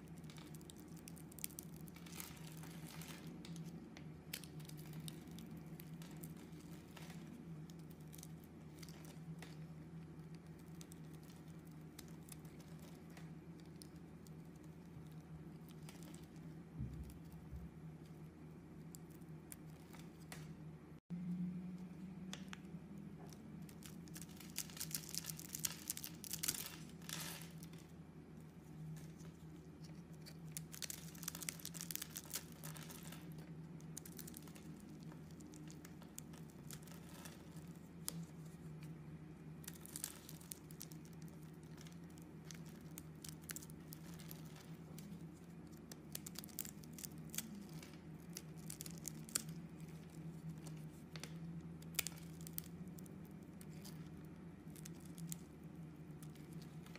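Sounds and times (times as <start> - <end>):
faint low hum: 0.0 - 56.9.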